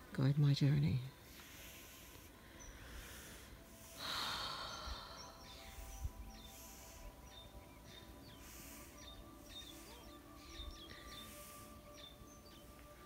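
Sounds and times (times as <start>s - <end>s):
small birds chirping: 0.0s - 13.0s
breathy rush of air: 1.2s - 13.0s.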